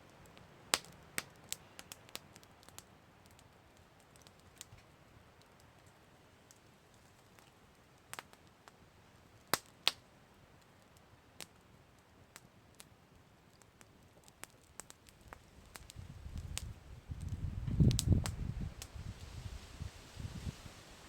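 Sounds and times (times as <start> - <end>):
campfire crackling and popping: 0.0 - 20.7.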